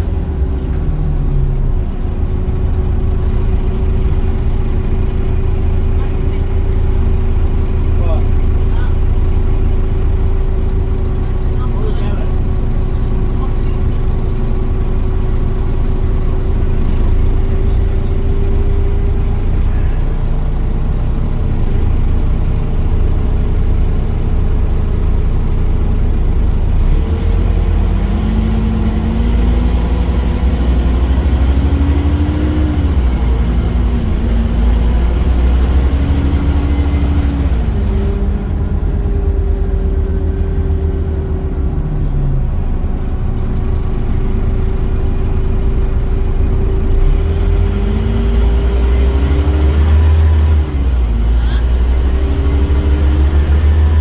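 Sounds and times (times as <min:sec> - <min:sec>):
bus engine accelerating: 0:00.0 - 0:54.0.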